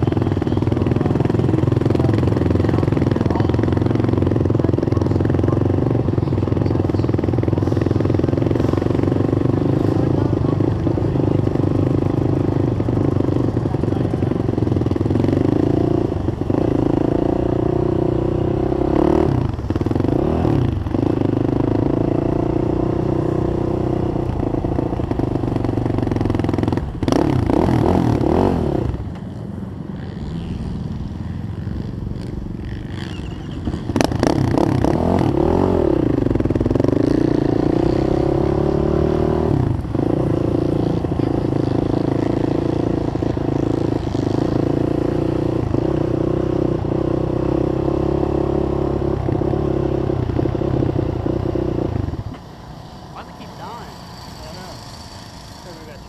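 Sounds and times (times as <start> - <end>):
quad engine revving: 0.0 - 29.2, 32.0 - 56.0.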